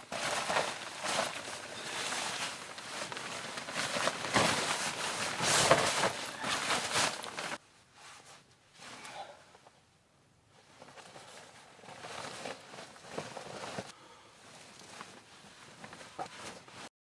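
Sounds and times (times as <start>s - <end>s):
rustling and crunching: 0.0s - 9.0s, 10.6s - 16.9s.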